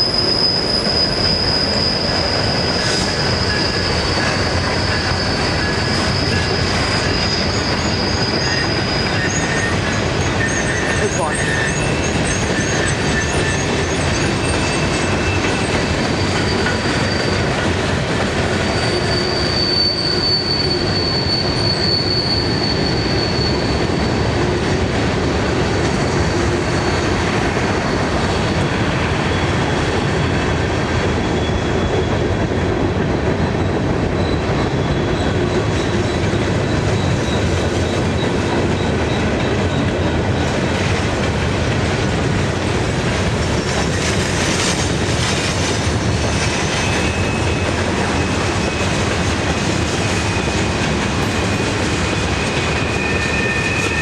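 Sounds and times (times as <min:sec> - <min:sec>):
high wheel squeal: 0:00.0 - 0:24.9, 0:25.5 - 0:32.4, 0:33.6 - 0:41.2, 0:42.2 - 0:54.0
freight train wheels rumbling on rail: 0:00.0 - 0:54.0.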